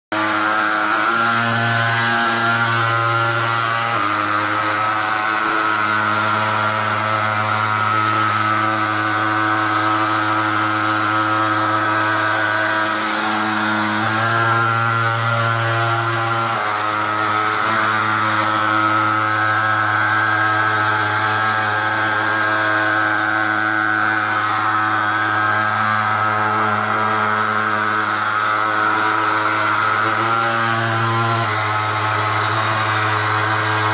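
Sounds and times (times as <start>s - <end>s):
thermal fogger engine droning: 0.1s - 33.9s.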